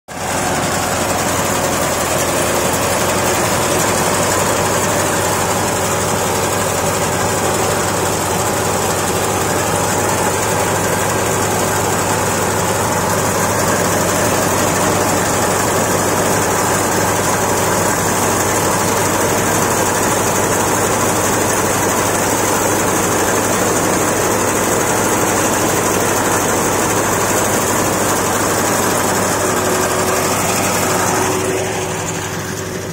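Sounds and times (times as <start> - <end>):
harvester engine and machinery running: 0.1 - 32.9.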